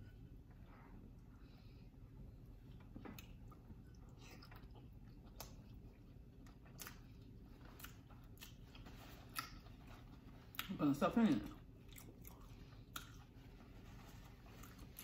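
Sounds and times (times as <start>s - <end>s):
wet chewing and lip-smacking: 2.6s - 15.0s.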